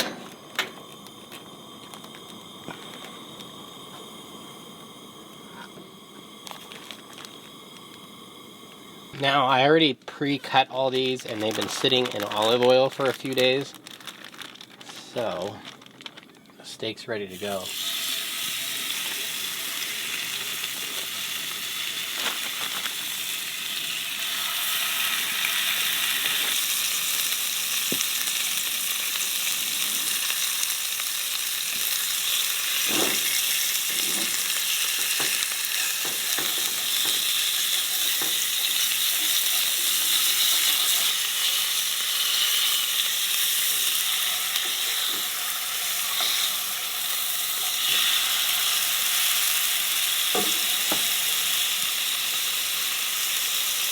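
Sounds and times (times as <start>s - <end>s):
steak sizzling in a pan: 0.3s - 9.6s, 17.4s - 53.9s.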